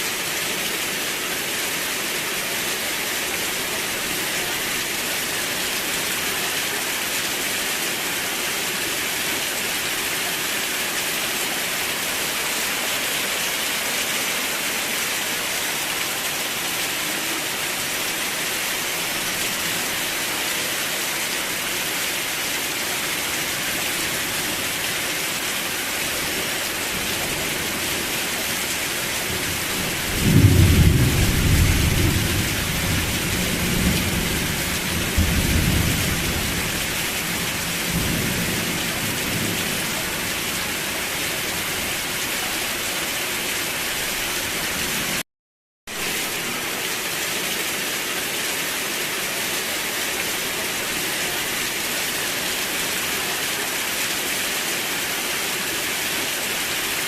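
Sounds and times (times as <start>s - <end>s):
steady rain: 0.0s - 45.2s, 45.9s - 57.0s.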